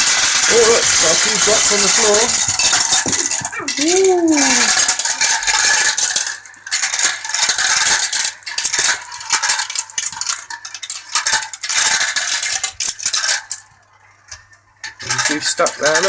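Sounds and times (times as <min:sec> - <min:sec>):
marbles clattering down a track: 0:00.0 - 0:16.0.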